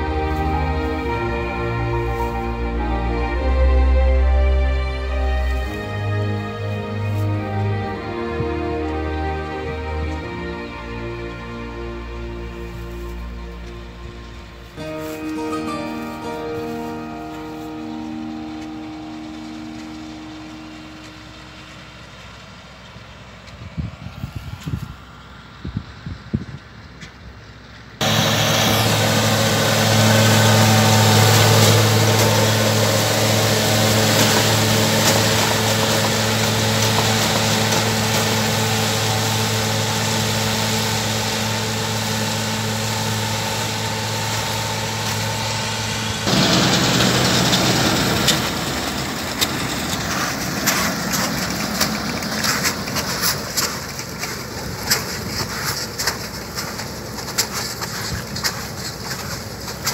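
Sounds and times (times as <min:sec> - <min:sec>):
farm machinery engine humming: 0:00.0 - 0:59.9.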